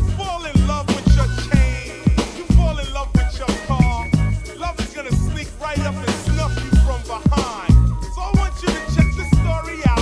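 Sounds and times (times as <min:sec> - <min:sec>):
kick drum and deep bass: 0:00.0 - 0:10.0
rapping over a beat: 0:00.0 - 0:10.0.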